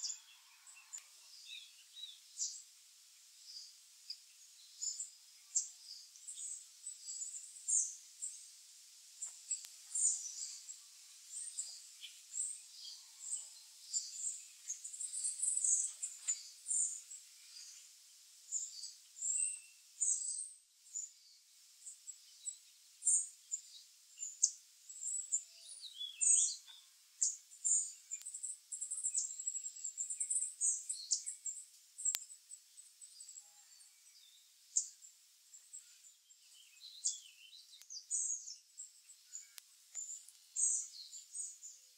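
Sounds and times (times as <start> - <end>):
faint steady hiss: 0.0 - 41.9
songbirds chirping: 0.0 - 41.9.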